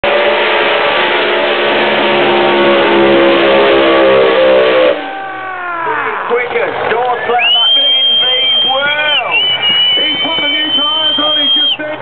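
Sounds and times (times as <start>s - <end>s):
drag car engines howling: 0.0s - 12.0s.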